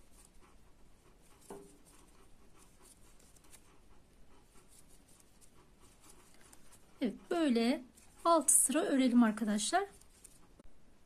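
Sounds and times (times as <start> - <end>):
crochet hook scratching and ticking: 0.0 - 10.6.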